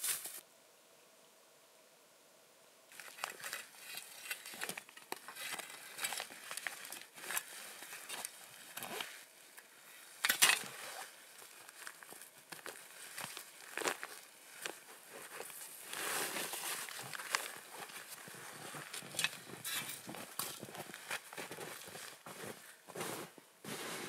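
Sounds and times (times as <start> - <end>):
backpack and clothing rustling: 2.9 - 24.0.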